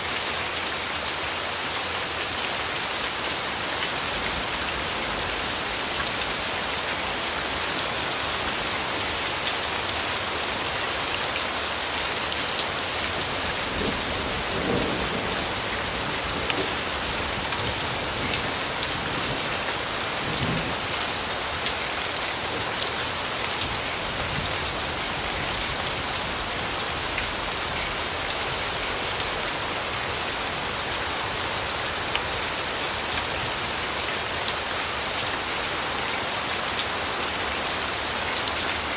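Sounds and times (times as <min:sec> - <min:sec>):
rain falling on a surface: 0:00.0 - 0:38.9.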